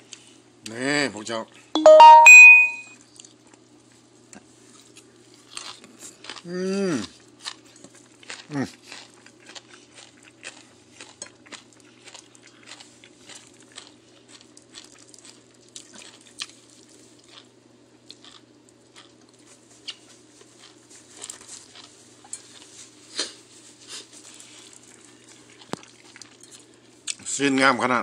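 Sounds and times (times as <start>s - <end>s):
person chewing food: 4.4s - 27.2s.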